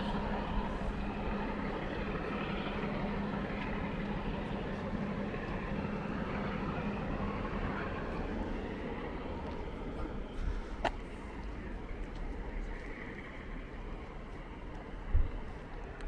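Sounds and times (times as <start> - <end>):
engine rumble: 0.0 - 16.0
low droning hum: 0.0 - 16.0.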